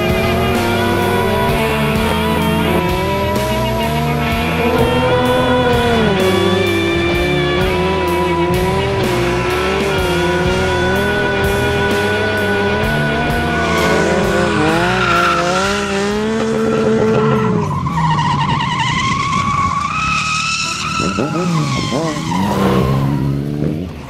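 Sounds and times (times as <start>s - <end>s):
tyres squealing: 0.0s - 23.4s
engine revving: 0.0s - 24.0s.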